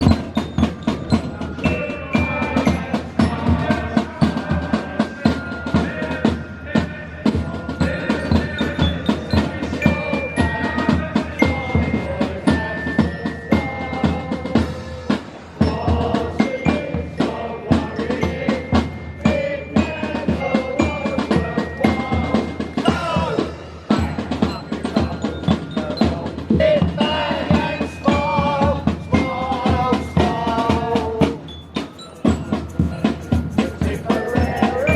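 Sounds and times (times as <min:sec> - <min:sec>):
live band playing: 0:00.0 - 0:34.9.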